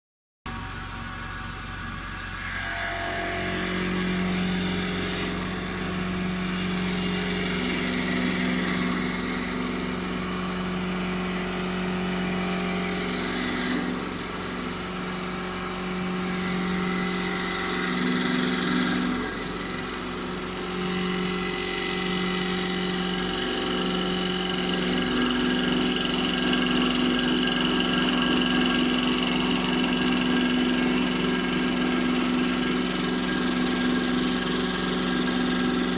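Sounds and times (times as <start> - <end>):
lathe motor hum: 0.6 - 35.9
cutter hissing on wood: 2.2 - 35.9.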